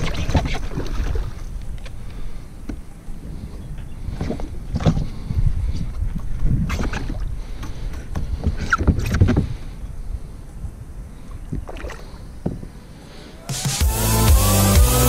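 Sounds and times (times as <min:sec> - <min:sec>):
low wind rumble: 0:00.0 - 0:13.4.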